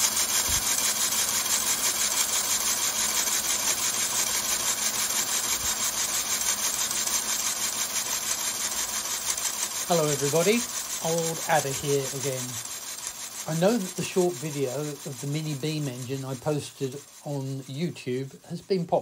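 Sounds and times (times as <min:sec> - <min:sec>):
air engine hissing and clattering: 0:00.0 - 0:19.0.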